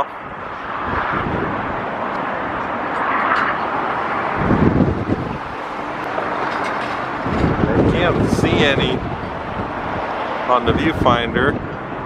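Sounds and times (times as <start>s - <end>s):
road traffic passing: 0.0s - 12.0s
wind buffeting microphone: 0.0s - 12.0s.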